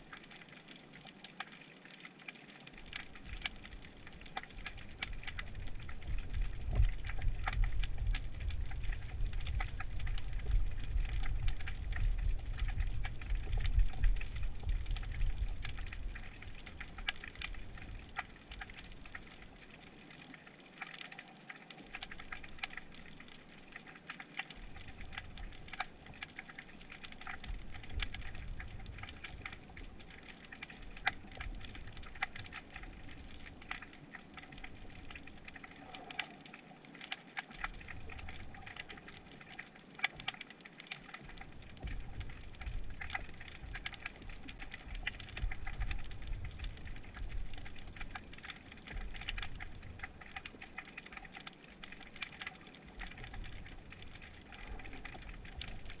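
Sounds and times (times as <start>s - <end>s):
low rumble of water moving: 0.0s - 56.0s.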